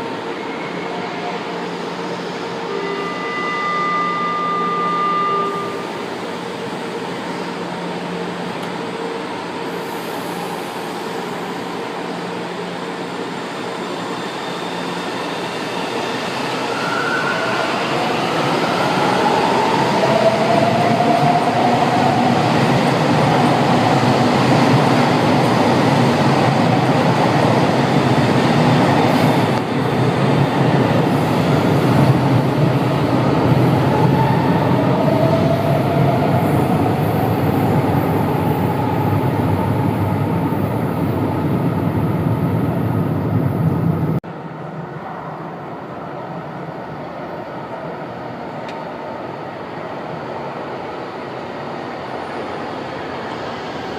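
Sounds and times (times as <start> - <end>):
subway train moving: 0.0 - 53.9.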